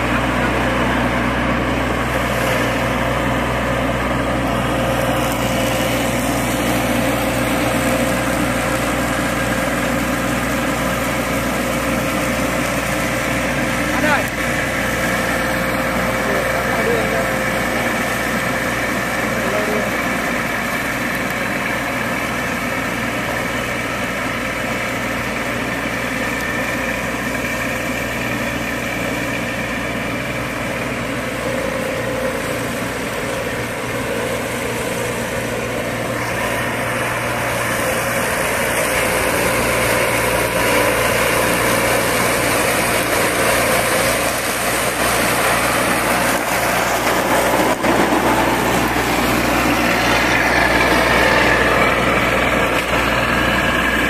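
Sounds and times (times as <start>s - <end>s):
ride-on mower running: 0.0s - 54.0s.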